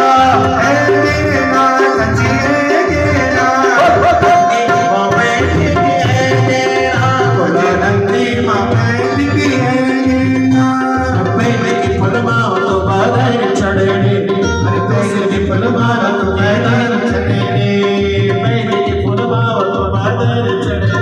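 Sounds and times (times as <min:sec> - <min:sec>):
devotional song melody: 0:00.0 - 0:21.0
steady drum beat: 0:00.0 - 0:21.0.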